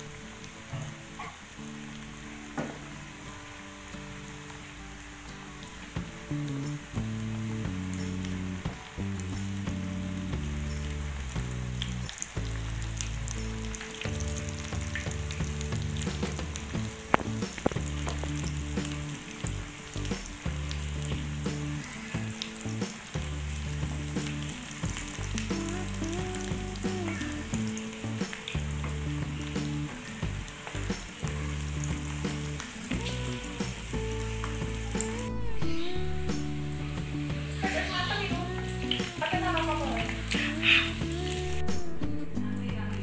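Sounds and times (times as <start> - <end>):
food deep-frying in oil: 0.0 - 41.7
low background music: 0.0 - 43.0.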